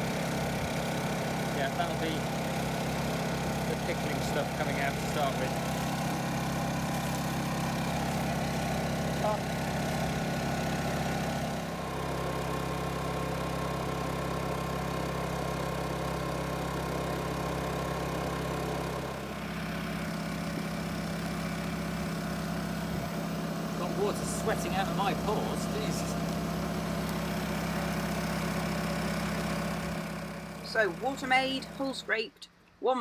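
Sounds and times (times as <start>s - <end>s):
pump motor humming: 0.0s - 32.2s.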